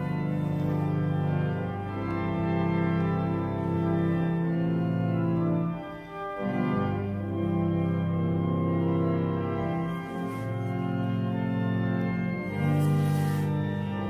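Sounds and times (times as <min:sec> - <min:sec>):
pipe organ sustained chords: 0:00.0 - 0:14.0.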